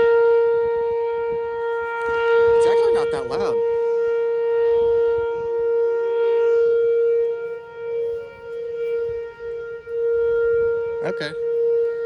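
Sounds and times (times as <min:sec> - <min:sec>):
outdoor warning siren steady tone: 0:00.0 - 0:12.0.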